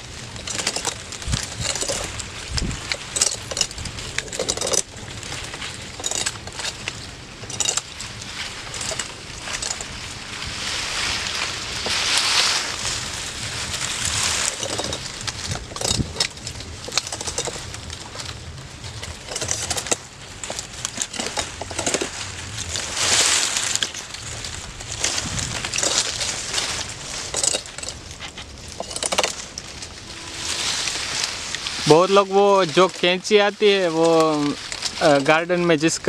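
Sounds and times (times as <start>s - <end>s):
palm fronds rustling: 0.0s - 36.0s.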